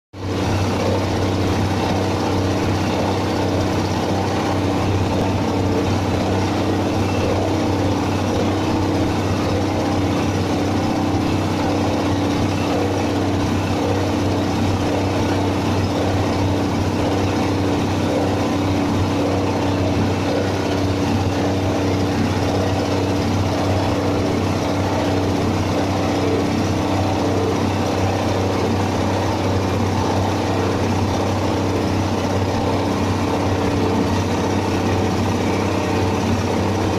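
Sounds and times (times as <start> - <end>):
diesel engine driving chopper: 0.2 - 36.9.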